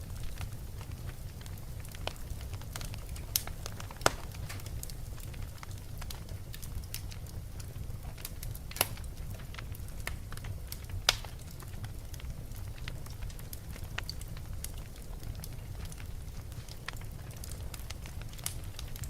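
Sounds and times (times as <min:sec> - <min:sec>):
wood fire crackling: 0:00.0 - 0:19.0
loud fire pops: 0:00.1 - 0:19.0.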